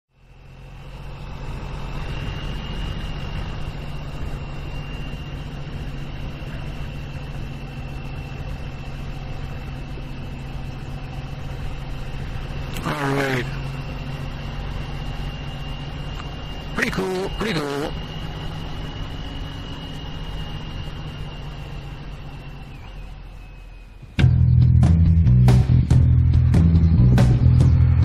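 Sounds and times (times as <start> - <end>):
thin high whine: 0.1 - 24.8
road and wind noise: 0.1 - 28.0.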